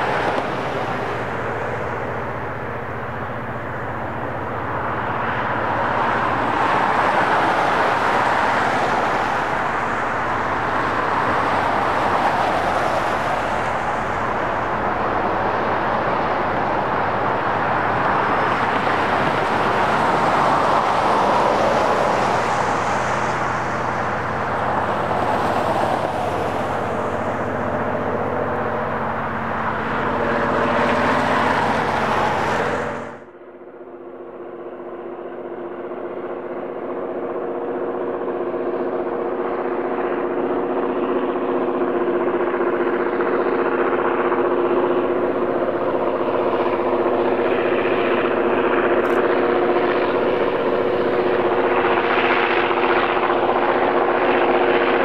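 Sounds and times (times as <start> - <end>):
diesel locomotive engine: 0.0 - 55.0
faint steady tones: 0.0 - 55.0.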